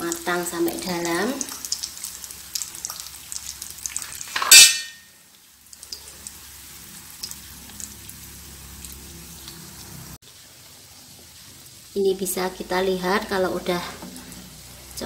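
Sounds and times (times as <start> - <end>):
omelette frying in hot oil: 0.0 - 15.0.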